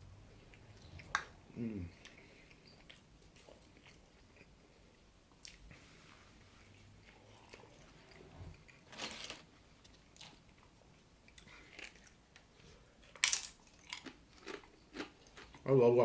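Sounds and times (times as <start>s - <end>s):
person chewing food: 0.3s - 5.7s, 6.4s - 8.9s, 9.8s - 15.7s.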